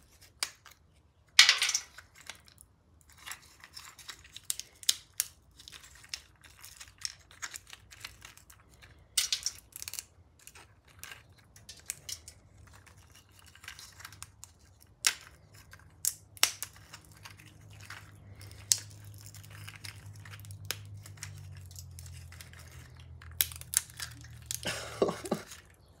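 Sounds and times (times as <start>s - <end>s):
plastic rubbing and rustling: 1.8s - 26.0s.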